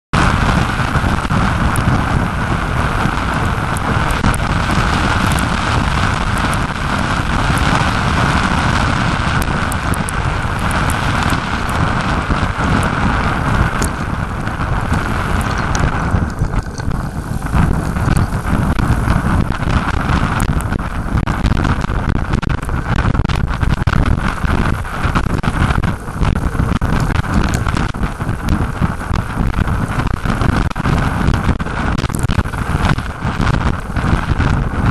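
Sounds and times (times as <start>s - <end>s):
wind buffeting microphone: 0.1s - 34.9s
rain drops ticking: 0.2s - 34.9s
tyres hissing on wet road: 0.2s - 34.9s.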